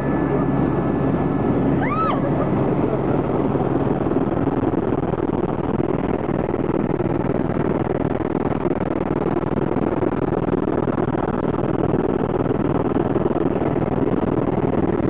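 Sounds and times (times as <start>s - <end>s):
small aircraft engine drone: 0.0s - 15.0s.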